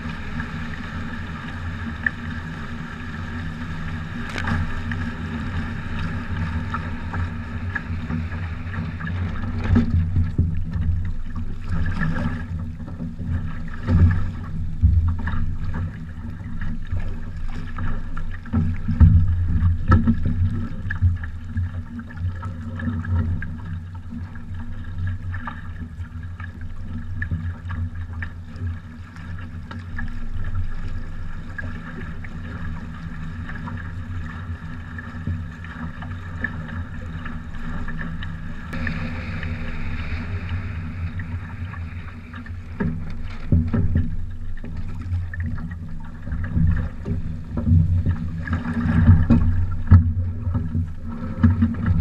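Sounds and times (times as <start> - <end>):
water slapping along hull: 0.0 - 52.0.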